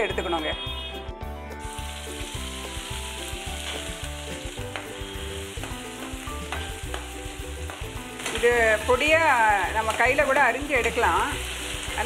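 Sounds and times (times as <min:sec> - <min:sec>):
ginger sizzling in oil: 0:01.5 - 0:12.0.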